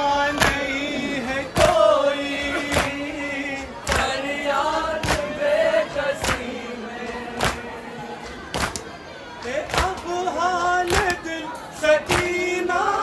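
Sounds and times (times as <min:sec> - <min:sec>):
group chanting a lament: 0:00.0 - 0:13.0.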